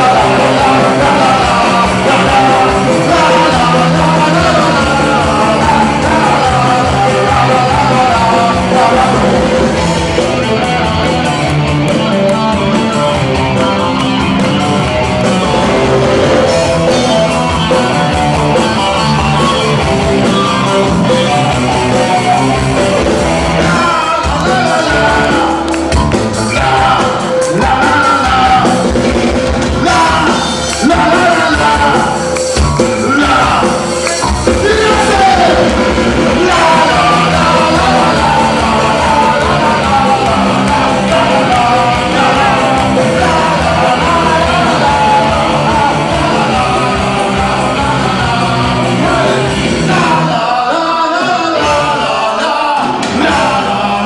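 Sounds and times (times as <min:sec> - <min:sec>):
person singing: 0:00.0 - 0:54.0
rock band playing live: 0:00.0 - 0:54.0.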